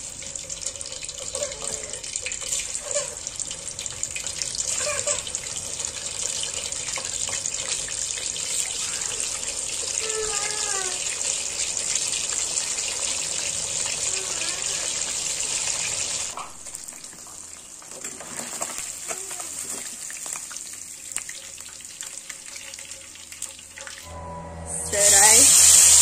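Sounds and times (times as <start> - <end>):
tap water running into sink: 0.0 - 24.1.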